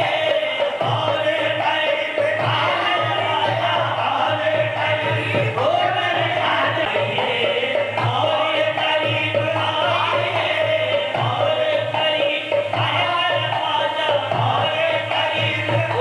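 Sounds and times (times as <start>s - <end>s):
group devotional singing: 0.0s - 16.0s.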